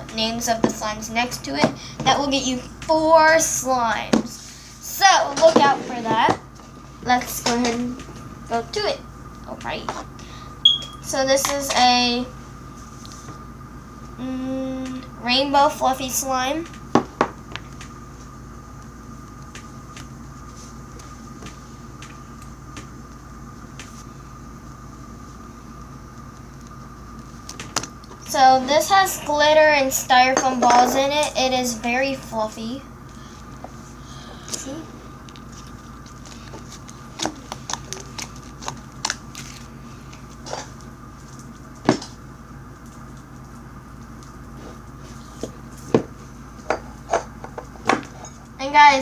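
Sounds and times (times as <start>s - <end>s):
mechanical hum: 0.0s - 49.0s.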